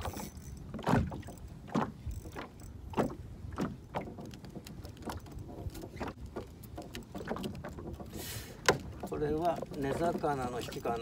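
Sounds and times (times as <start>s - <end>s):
waves slapping against boat hull: 0.0s - 11.0s.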